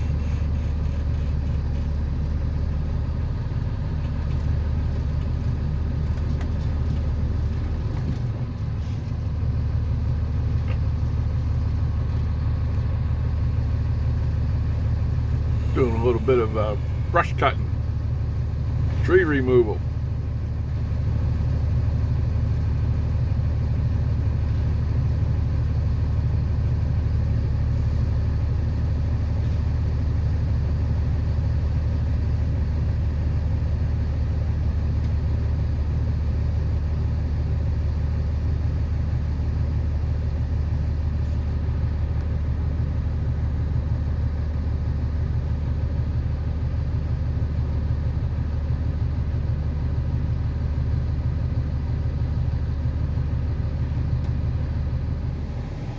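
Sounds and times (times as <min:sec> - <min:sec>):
engine droning steadily: 0:00.0 - 0:55.9.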